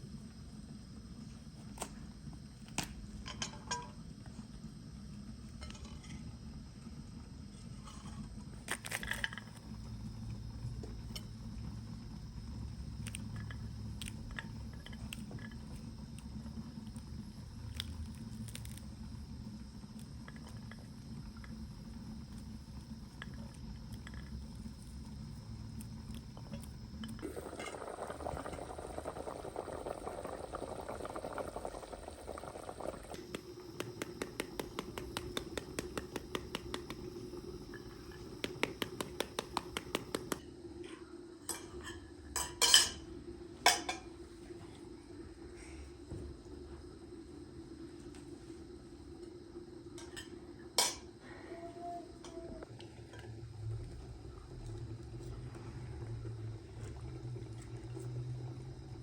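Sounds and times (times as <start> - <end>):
boiling hiss: 0.0 - 59.0.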